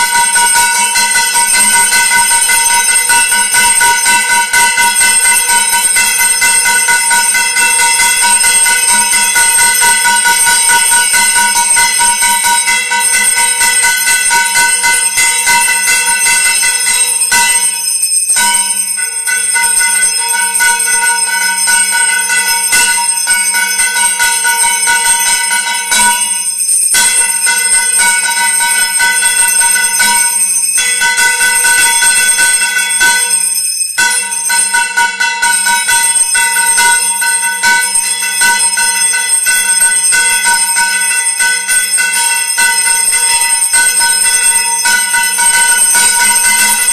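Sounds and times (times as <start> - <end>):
temple bells ringing rapidly: 0.0 - 46.9.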